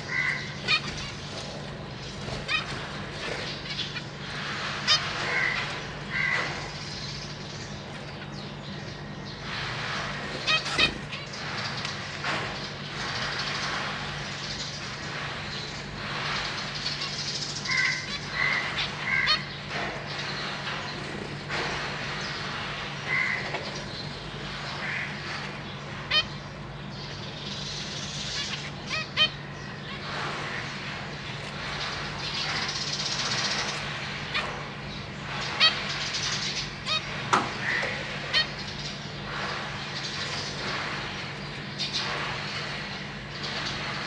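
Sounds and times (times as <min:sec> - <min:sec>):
finches calling: 0:00.0 - 0:44.0
steady low hum: 0:00.0 - 0:44.0.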